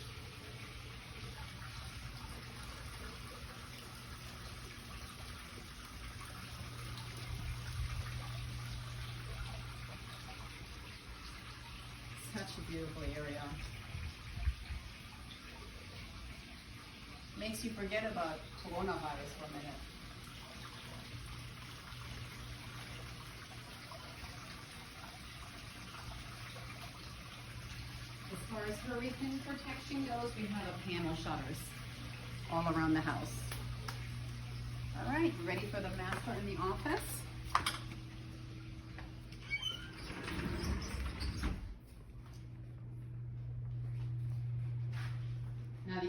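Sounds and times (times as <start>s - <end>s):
water trickling: 0.0s - 42.8s
low steady hum: 0.0s - 46.0s.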